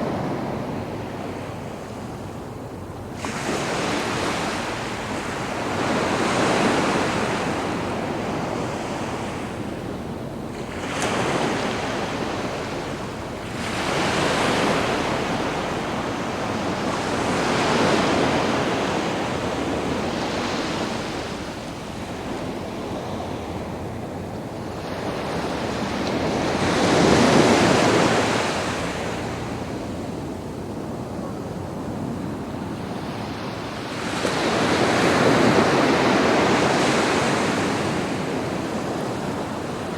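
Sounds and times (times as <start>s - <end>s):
light wind: 0.0s - 39.9s
sea waves breaking on beach: 0.0s - 39.9s.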